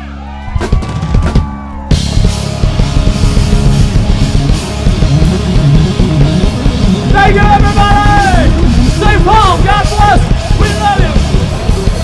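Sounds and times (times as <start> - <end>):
rock band playing loud: 0.0 - 12.0.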